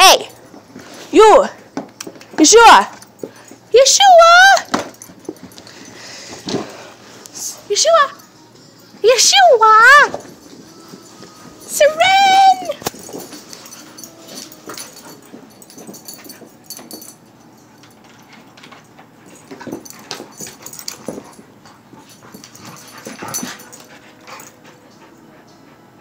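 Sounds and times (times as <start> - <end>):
puppies knocking and scuffling: 0.1 - 25.2.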